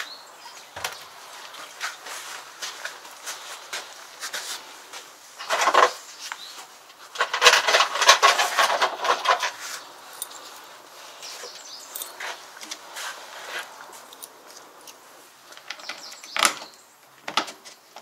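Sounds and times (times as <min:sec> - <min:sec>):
rustling and light clattering: 0:00.0 - 0:18.0.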